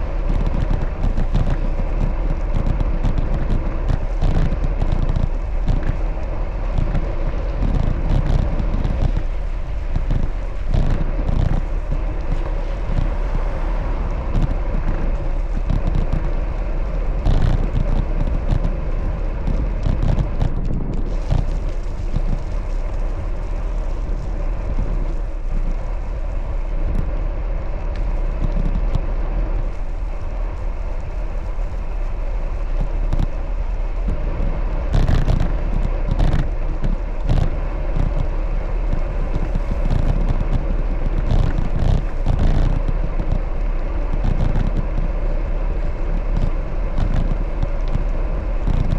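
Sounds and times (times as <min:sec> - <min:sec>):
road and traffic rumble: 0:00.0 - 0:48.9
wind buffeting microphone: 0:00.0 - 0:48.9.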